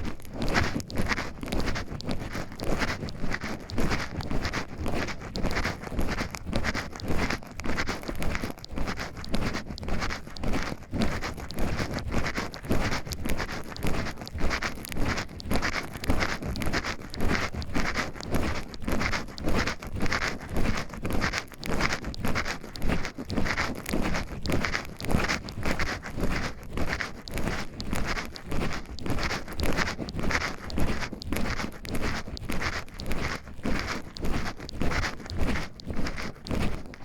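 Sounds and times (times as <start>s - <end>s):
footsteps on forest trail: 0.0s - 37.0s.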